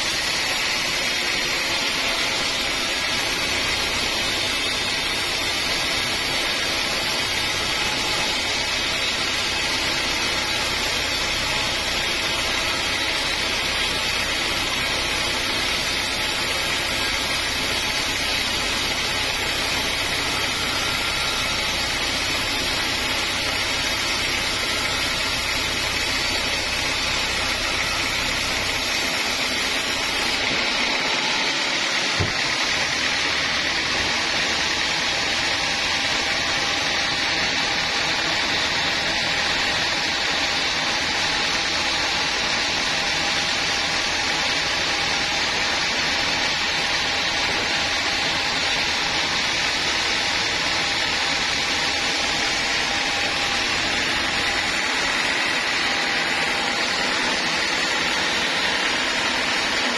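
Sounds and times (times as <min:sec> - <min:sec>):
low saw motor hum: 0:00.0 - 0:59.9.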